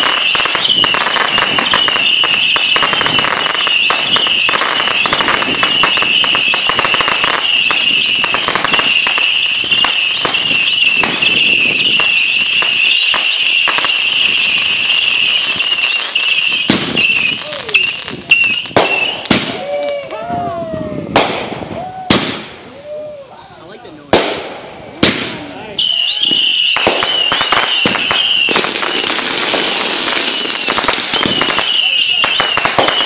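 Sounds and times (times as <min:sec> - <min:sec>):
fireworks crackling pops: 0:00.0 - 0:20.4, 0:21.1 - 0:23.0, 0:23.8 - 0:33.0
loud fireworks bangs: 0:00.0 - 0:22.7, 0:24.1 - 0:33.0.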